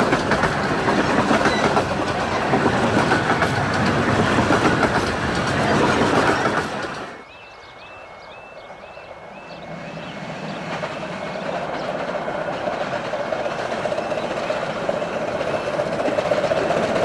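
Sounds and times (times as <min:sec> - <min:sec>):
wheels clattering over rail joints: 0:00.0 - 0:07.2, 0:10.4 - 0:17.0
miniature train running past: 0:00.0 - 0:17.0.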